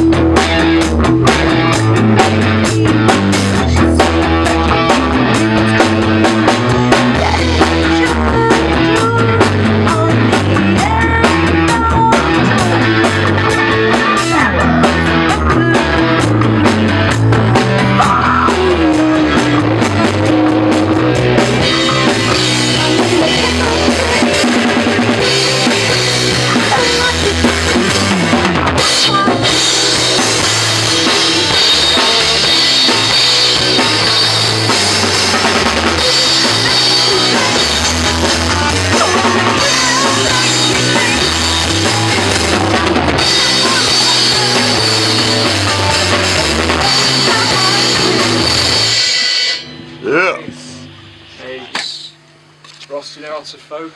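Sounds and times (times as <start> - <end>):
rock band playing live: 0.0 - 52.7.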